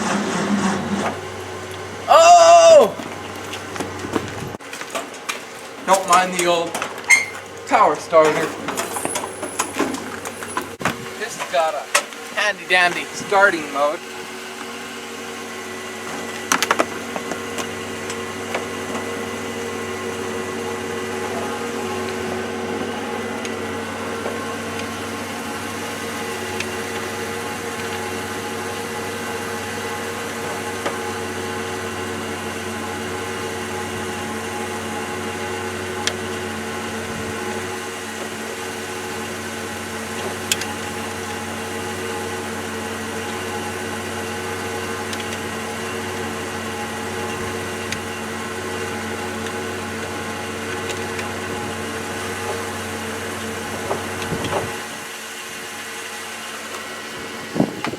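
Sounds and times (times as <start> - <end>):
machine hum: 0.0 - 57.9.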